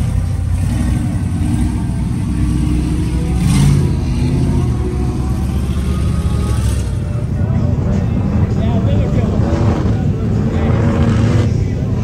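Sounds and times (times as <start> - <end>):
truck engine running and revving: 0.0 - 12.0.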